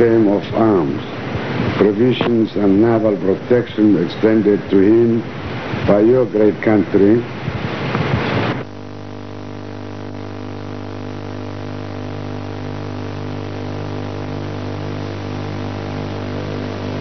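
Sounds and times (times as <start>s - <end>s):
buzzy electrical hum: 0.0s - 17.0s.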